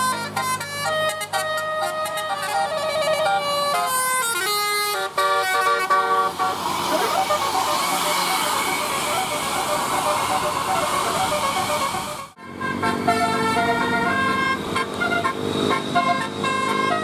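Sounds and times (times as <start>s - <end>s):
bus horn playing tune: 0.0s - 17.0s.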